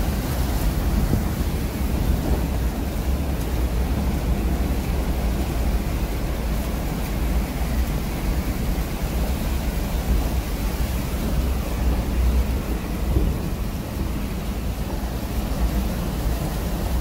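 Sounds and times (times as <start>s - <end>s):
tyres hissing through water: 0.0s - 17.0s
vehicle rumble in tunnel: 0.0s - 17.0s.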